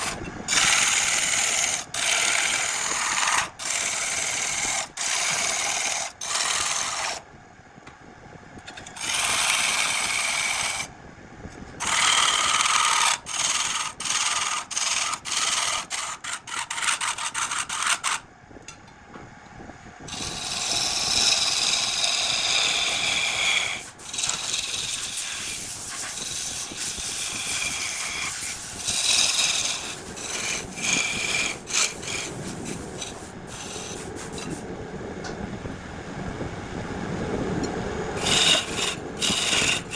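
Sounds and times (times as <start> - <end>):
lathe tool scraping wood: 0.0 - 7.2, 8.8 - 10.9, 11.8 - 18.2, 20.1 - 34.6, 38.2 - 39.9.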